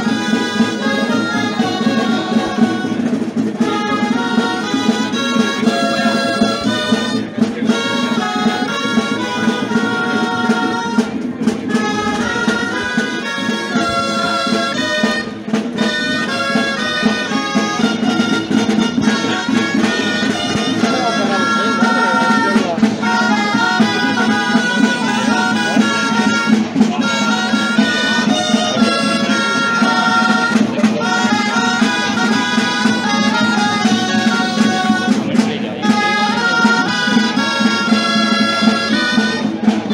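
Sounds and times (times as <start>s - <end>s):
wind band playing dance music: 0.0s - 39.9s.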